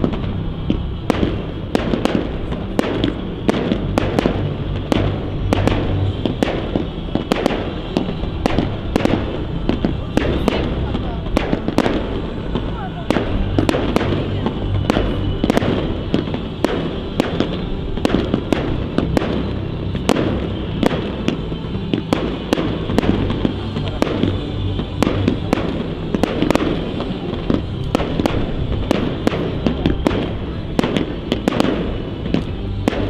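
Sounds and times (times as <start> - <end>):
fireworks bangs and crackle: 0.0 - 33.0
steady rumble: 0.0 - 33.0.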